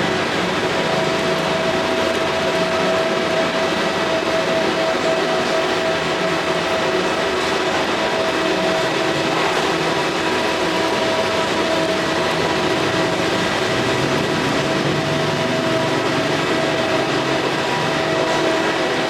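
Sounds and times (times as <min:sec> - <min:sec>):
machine drone: 0:00.0 - 0:19.0.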